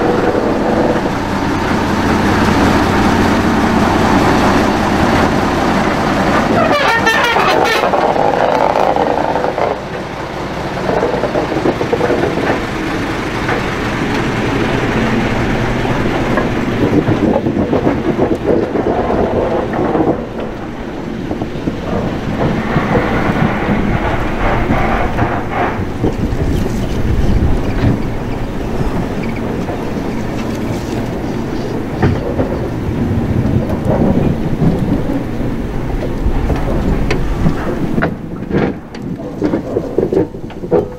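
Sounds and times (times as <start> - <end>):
diesel locomotive running: 0.0 - 40.9
train cars rolling on rails: 0.0 - 40.9.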